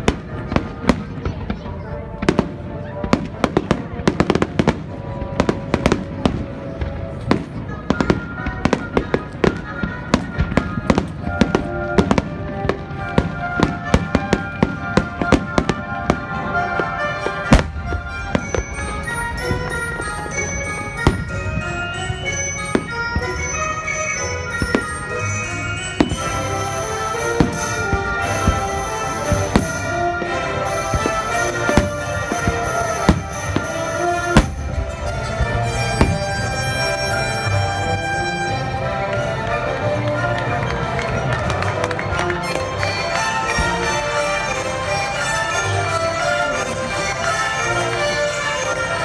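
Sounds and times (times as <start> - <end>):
fireworks bangs: 0.0 - 49.0
music playing: 0.0 - 49.0.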